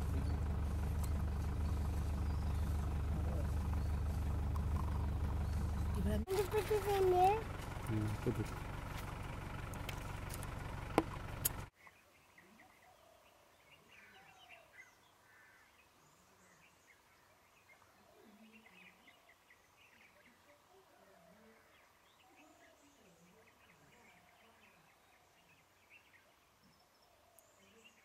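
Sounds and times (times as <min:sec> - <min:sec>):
faint bird calls and chirps: 0:00.0 - 0:06.5, 0:11.1 - 0:28.0.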